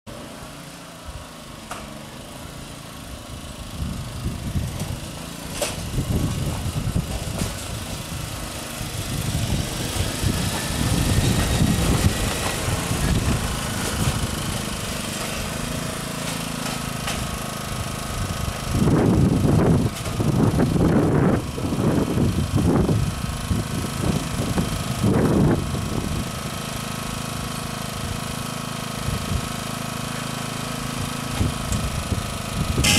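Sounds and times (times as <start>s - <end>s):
wheels rolling on track: 0.1s - 32.9s
miniature train running: 1.2s - 32.9s.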